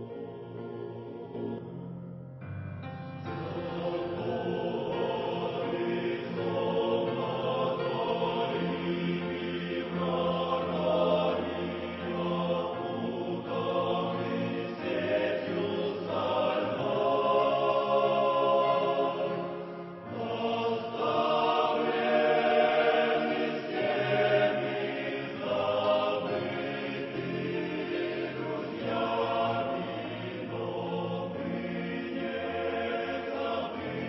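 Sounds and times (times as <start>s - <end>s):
choir singing a slow hymn: 0.0s - 2.0s, 2.8s - 34.0s.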